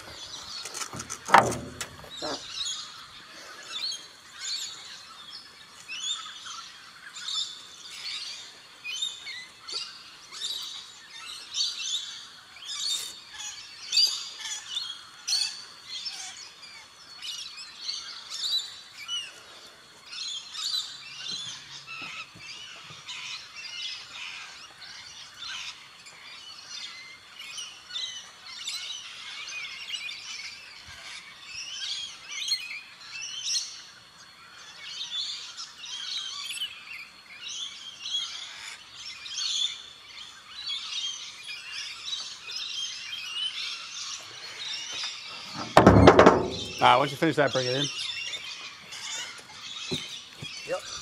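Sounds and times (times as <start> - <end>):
birds chirping and calling: 0.0 - 51.0.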